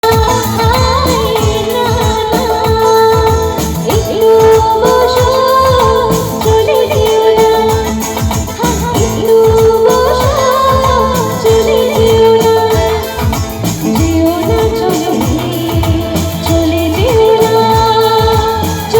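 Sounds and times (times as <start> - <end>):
song over a sound system: 0.0 - 18.9
steady drum beat: 0.0 - 18.9.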